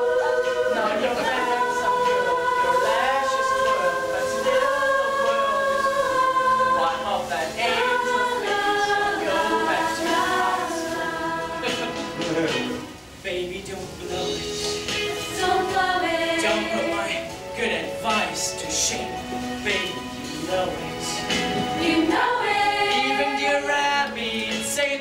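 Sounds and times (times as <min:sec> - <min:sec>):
chorus singing in harmony: 0:00.0 - 0:13.0, 0:14.2 - 0:25.0.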